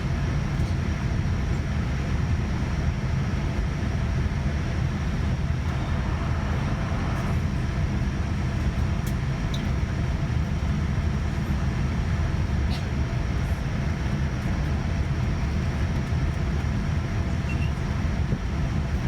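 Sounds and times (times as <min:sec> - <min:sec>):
airliner cabin rumble and hum: 0:00.0 - 0:19.0.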